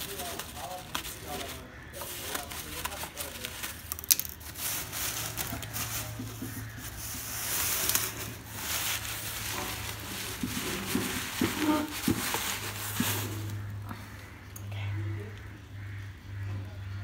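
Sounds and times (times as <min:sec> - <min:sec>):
crackling rustling handling noise: 0:00.0 - 0:14.4.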